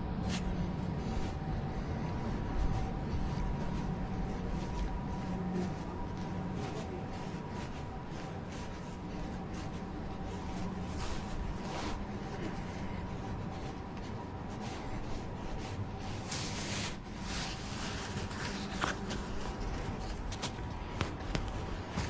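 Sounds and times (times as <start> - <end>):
light footsteps: 0.0 - 22.0
steady low hum: 0.0 - 22.0.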